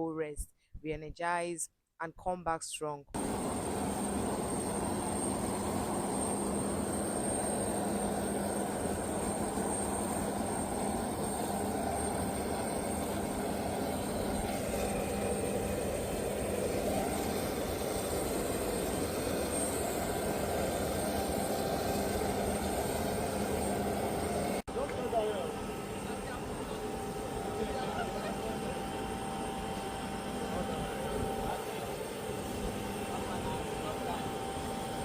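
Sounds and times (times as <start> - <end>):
jet engines rushing: 3.2 - 35.0.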